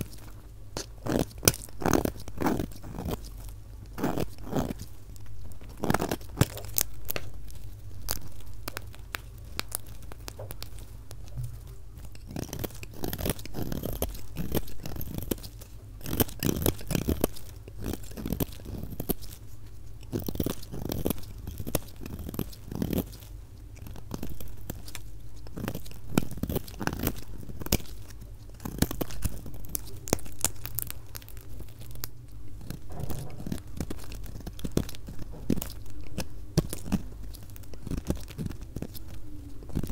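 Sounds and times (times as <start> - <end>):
knife cutting soap: 0.0 - 39.9.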